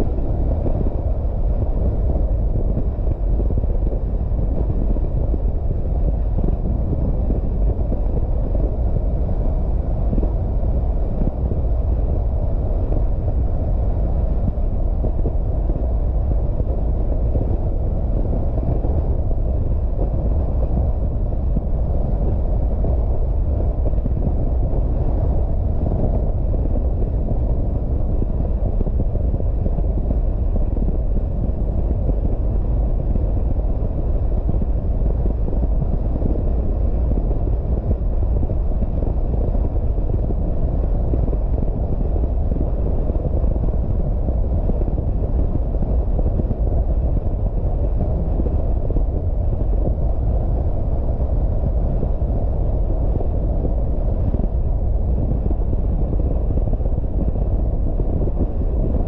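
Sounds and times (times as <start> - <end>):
car driving tyre and wind noise: 0.0 - 59.0.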